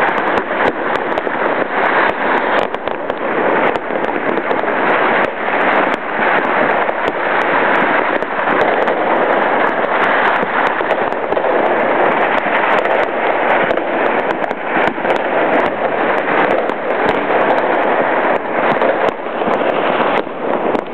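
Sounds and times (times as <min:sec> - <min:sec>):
fireworks and firecrackers crackling: 0:00.0 - 0:20.9.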